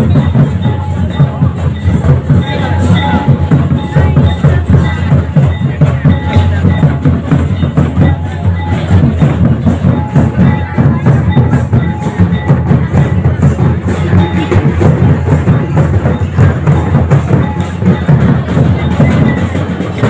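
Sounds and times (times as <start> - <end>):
crowd noise: 0.0 - 20.0
drums and percussion dance beat: 0.0 - 20.0.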